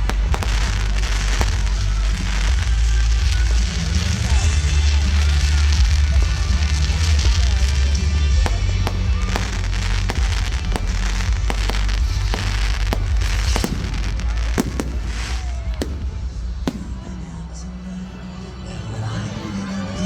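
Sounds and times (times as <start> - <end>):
fireworks bangs and cracks: 0.0 - 18.8.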